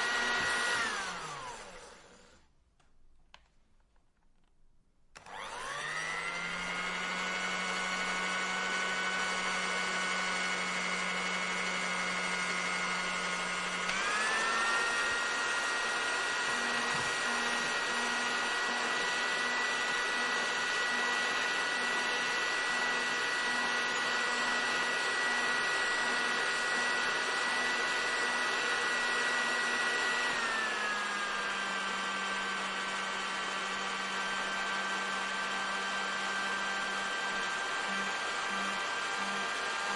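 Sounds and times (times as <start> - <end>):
hair dryer running: 0.0 - 2.5, 5.2 - 39.9.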